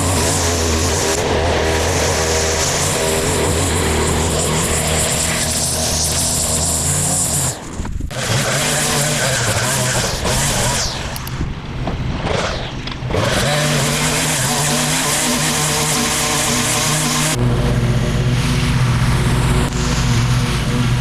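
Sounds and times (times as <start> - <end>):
mower engine running: 0.0 - 21.0.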